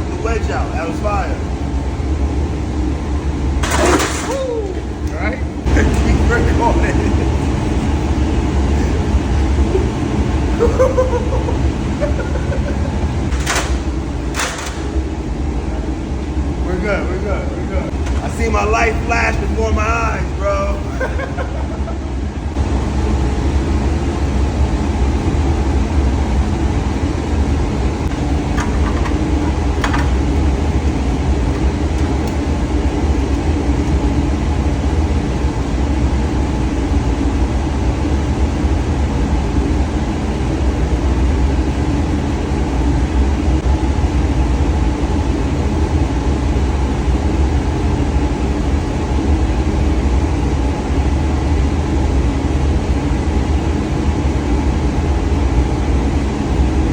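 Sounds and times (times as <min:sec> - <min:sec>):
boiler room machinery drone: 0:00.0 - 0:56.9.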